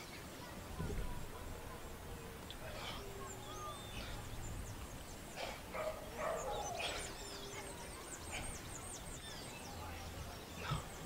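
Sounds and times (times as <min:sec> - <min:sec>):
birds chirping: 0:00.0 - 0:11.0
fainter lower bird calls: 0:01.0 - 0:11.0.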